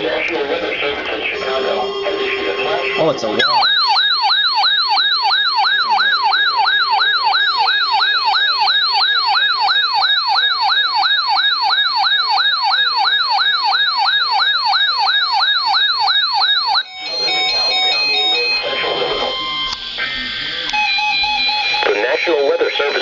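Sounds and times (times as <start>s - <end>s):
siren fast yelp: 1.4s - 23.0s.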